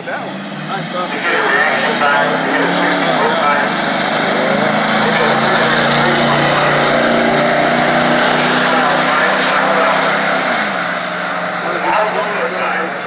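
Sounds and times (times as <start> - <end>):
race engine running loudly: 0.0 - 13.0.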